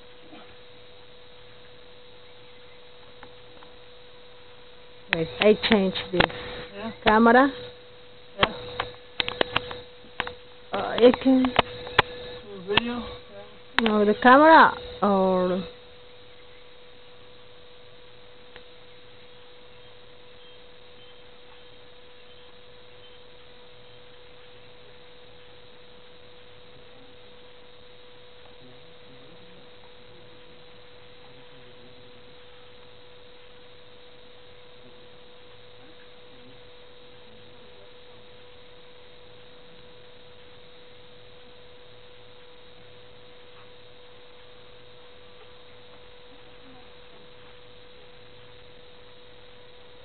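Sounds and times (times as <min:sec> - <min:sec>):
electronic tone whine: 0:00.0 - 0:50.0
low hiss: 0:00.0 - 0:50.0.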